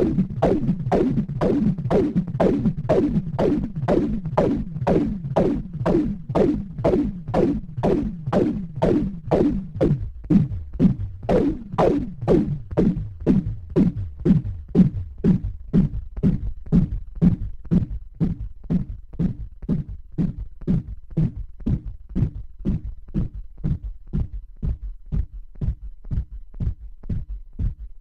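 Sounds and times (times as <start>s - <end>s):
continuous low hum: 0.0s - 28.0s
drum synthesizer thumping hits: 0.0s - 28.0s.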